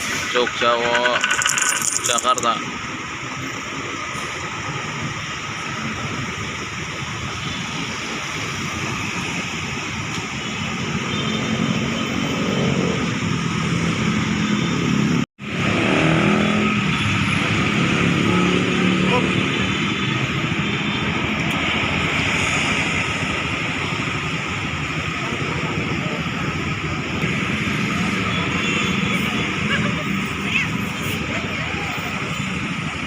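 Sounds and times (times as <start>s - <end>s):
traffic noise: 0.0s - 33.0s.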